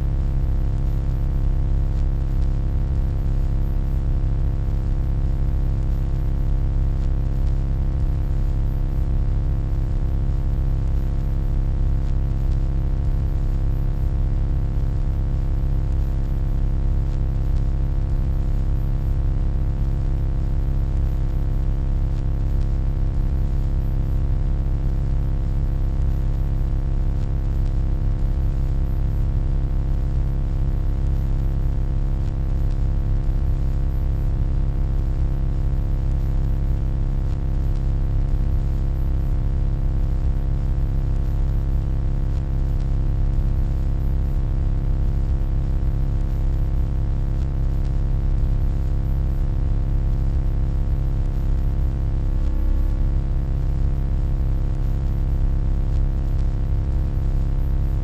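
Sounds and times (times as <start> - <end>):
electronic hum: 0.0 - 57.0.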